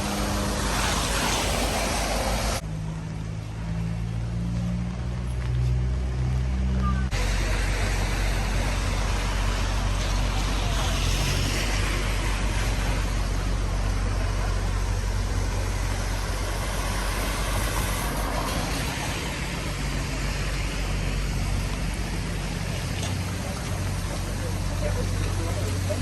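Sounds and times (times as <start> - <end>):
rain hissing on wet road: 0.0 - 2.6, 7.2 - 26.0
low engine hum: 0.0 - 26.0
vehicles passing: 0.0 - 26.0.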